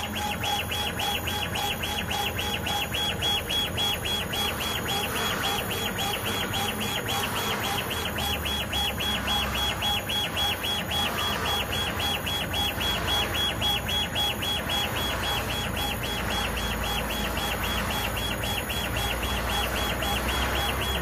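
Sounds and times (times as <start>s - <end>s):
laser engraver pulsing whine: 0.0s - 21.0s.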